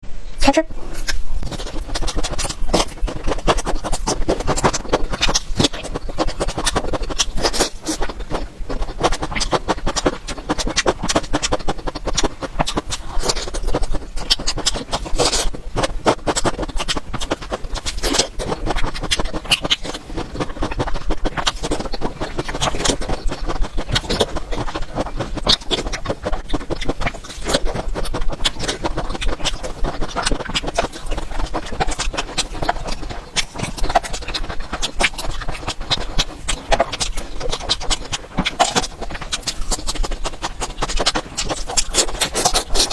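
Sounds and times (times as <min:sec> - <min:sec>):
chewing and crunching food: 0:00.5 - 0:42.9.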